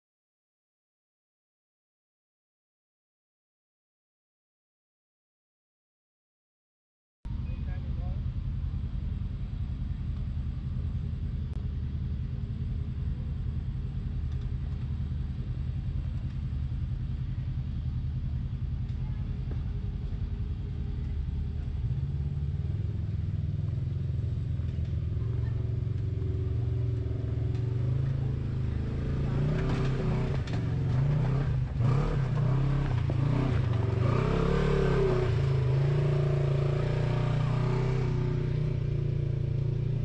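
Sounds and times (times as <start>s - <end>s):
utility vehicle engine rumbling: 7.3s - 40.0s.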